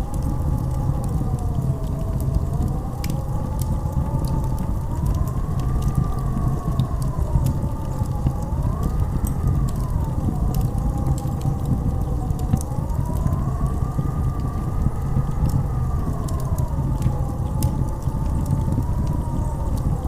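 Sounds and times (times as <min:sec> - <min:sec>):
faint crackling clicks: 0:00.0 - 0:20.0
howling blizzard wind: 0:00.0 - 0:20.0.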